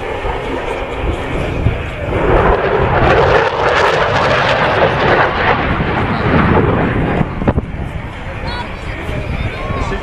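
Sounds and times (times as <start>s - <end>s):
jet engine roaring: 0.0s - 10.0s.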